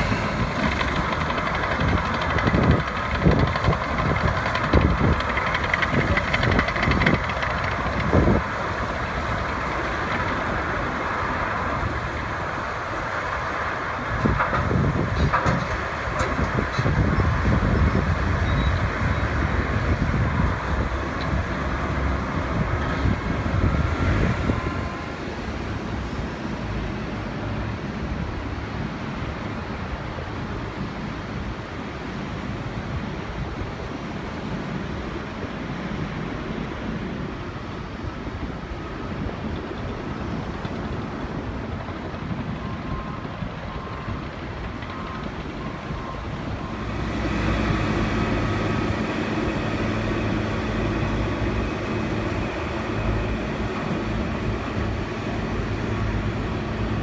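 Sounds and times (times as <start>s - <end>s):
heavy machinery diesel engines: 0.0s - 57.0s
wind: 0.0s - 57.0s.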